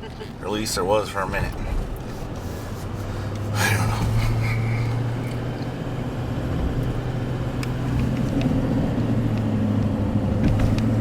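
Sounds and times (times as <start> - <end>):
road and tyre noise: 0.0 - 11.0
truck engine drone: 0.0 - 11.0.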